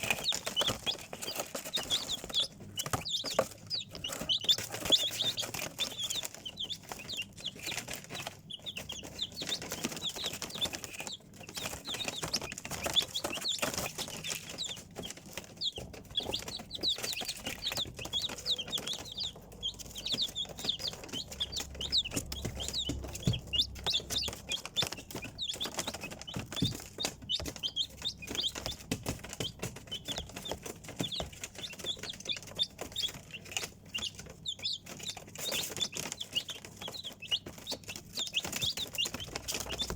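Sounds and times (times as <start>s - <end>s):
chicks peeping: 0.0s - 39.9s
small taps and rustles: 0.0s - 39.9s.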